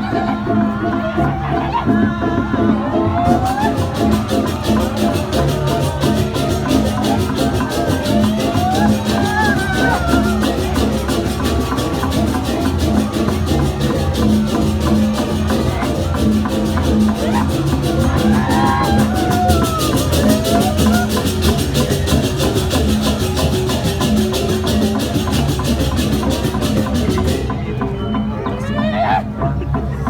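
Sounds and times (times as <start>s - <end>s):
drums: 0.0s - 30.0s.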